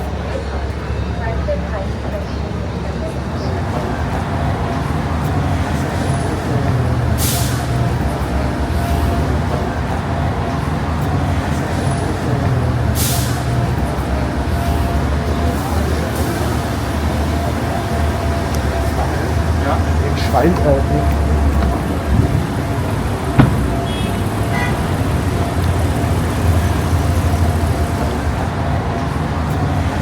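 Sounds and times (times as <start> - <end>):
large vehicle engine running: 3.1 - 30.0.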